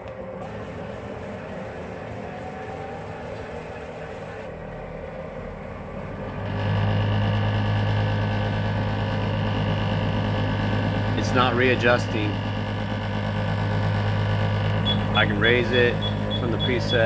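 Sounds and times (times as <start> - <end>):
faint rising whine: 0.0 - 17.0
loud low hum: 0.0 - 17.0
machine motors humming: 0.0 - 17.0.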